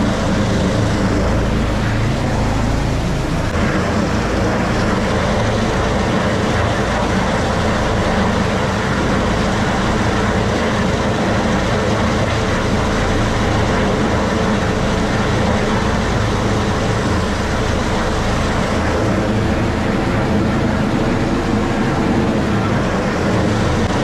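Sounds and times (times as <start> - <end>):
helicopter rotor and turbine noise: 0.0 - 24.0.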